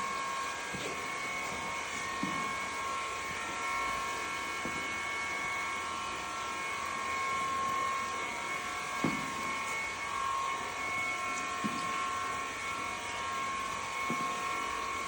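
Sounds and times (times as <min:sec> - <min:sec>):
mechanical whine: 0:00.0 - 0:15.0.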